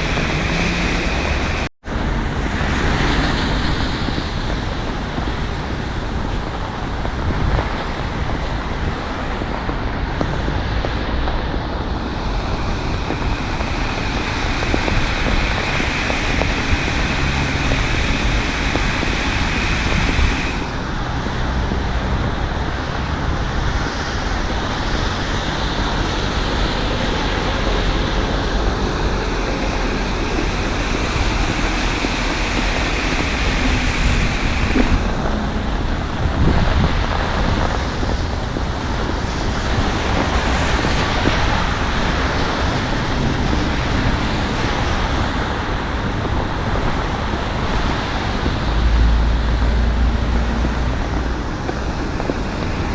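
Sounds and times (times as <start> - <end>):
tyres hissing on wet road: 0.0 - 52.9
wind rumble on microphone: 0.0 - 52.9.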